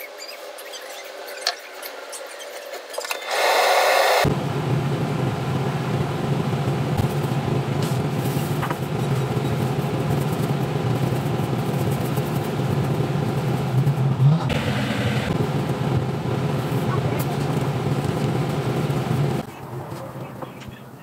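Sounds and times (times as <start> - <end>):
low mechanical hum: 4.2 - 21.0.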